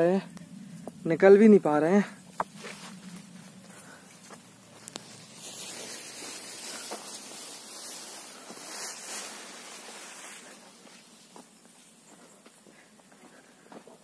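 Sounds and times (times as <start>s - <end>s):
leaves and branches rustling: 0.0s - 13.6s.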